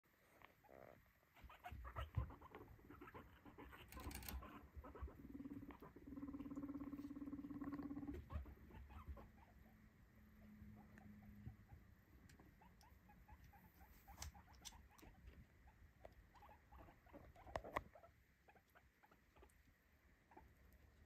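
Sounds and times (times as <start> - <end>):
guinea pig buzzing purr: 0.2 - 21.0
guinea pig feet pattering: 0.6 - 9.7, 10.7 - 21.0.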